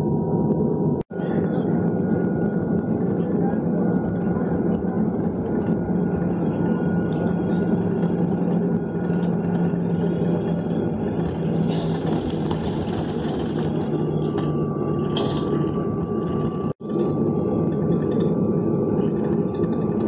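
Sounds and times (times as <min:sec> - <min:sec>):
aircraft engines humming in cabin: 0:00.0 - 0:20.0.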